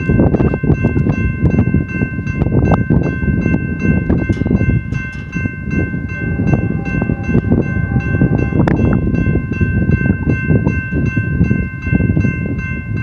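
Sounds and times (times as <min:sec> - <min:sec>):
diesel freight train rumbling: 0:00.0 - 0:13.0
railroad crossing bell ringing: 0:00.0 - 0:13.0.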